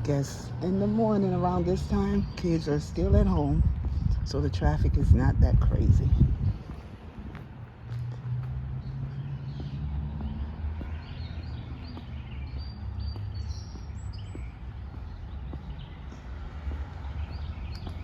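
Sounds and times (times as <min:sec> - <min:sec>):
small birds chirping: 0:00.0 - 0:04.5, 0:05.8 - 0:18.0
street traffic rumble: 0:00.0 - 0:18.0.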